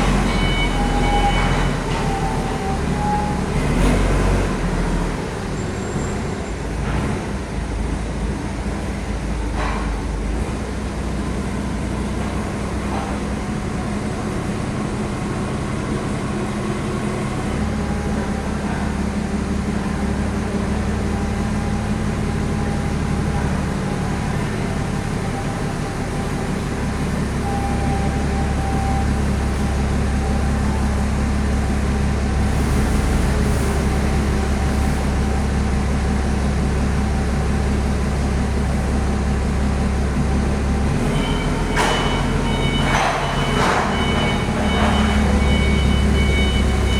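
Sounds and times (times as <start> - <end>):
road noise: 0.0 - 46.9
truck engine running: 0.0 - 46.9.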